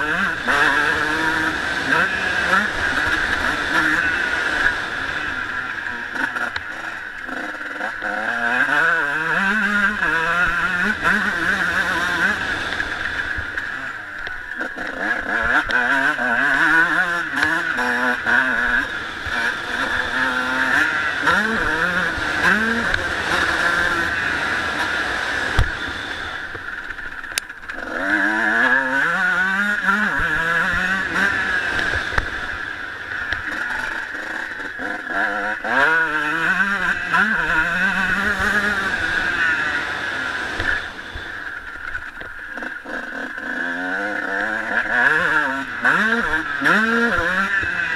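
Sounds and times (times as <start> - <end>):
motocross engine revving: 0.0 - 47.9.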